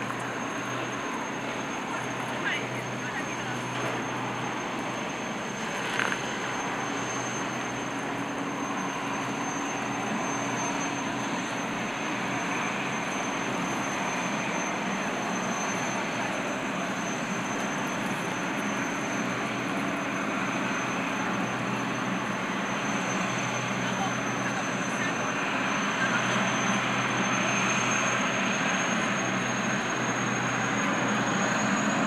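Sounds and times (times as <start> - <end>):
gas turbines whining: 0.0 - 32.0.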